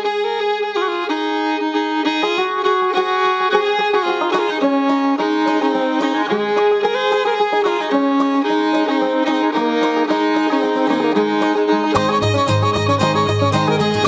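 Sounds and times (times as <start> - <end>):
fiddle melody: 0.0 - 14.0
string accompaniment: 0.0 - 14.0.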